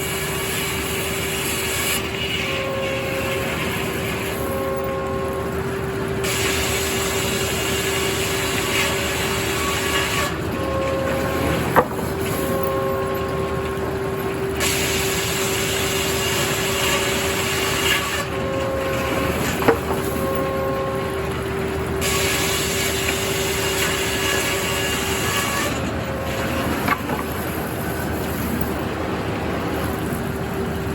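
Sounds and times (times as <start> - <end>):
high machine whines: 0.0 - 30.9
sawmill machinery hum: 0.0 - 30.9.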